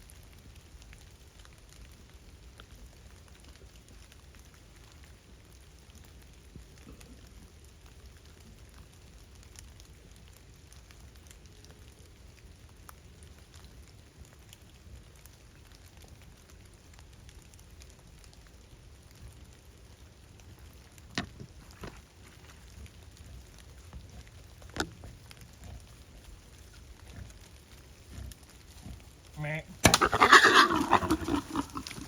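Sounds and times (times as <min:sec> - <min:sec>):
light rain on leaves: 0:00.0 - 0:32.0.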